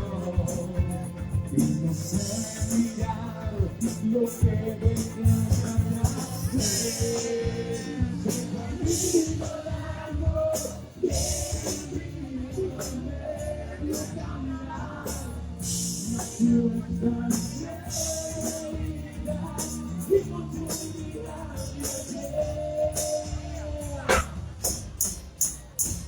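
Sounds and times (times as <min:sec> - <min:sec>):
drum kit and cymbals: 0:00.0 - 0:14.2, 0:15.0 - 0:26.0
live band playing pop song: 0:00.0 - 0:26.0.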